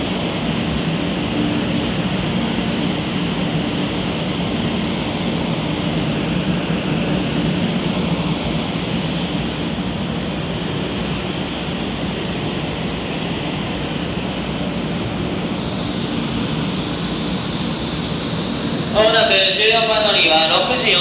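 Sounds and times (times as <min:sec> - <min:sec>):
station platform low hum: 0:00.0 - 0:21.0.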